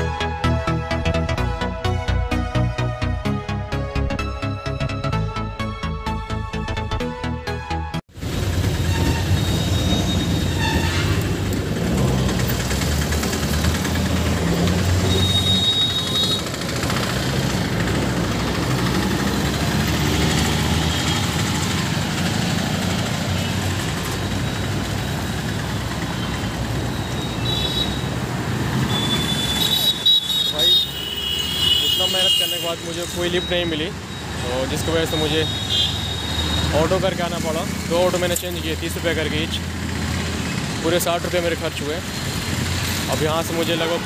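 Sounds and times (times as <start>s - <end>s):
traffic rumble: 8.1s - 44.0s.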